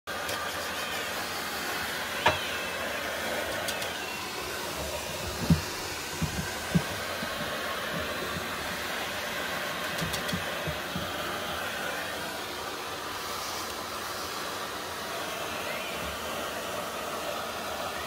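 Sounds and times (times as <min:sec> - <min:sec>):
vacuum cleaner running: 0:00.1 - 0:18.0.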